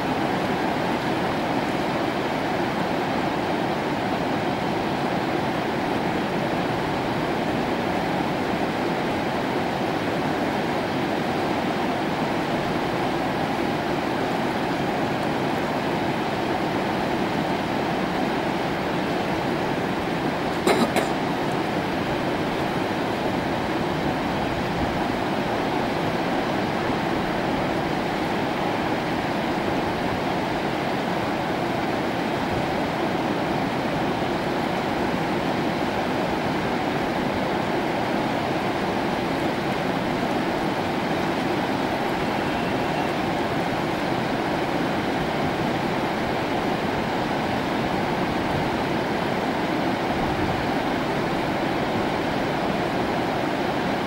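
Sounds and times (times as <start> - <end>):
river rapids rushing: 0.0 - 54.0.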